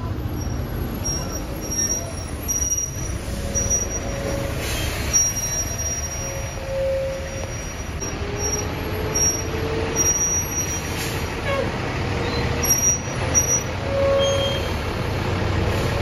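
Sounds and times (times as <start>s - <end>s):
brake squeals: 0.0s - 16.0s
bus engine rumbling: 0.0s - 16.0s.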